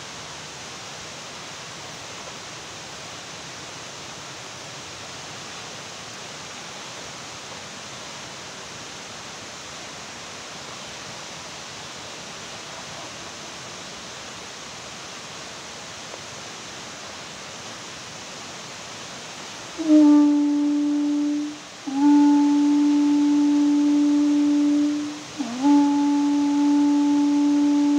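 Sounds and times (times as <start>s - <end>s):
steady rushing water or wind: 0.0s - 27.9s.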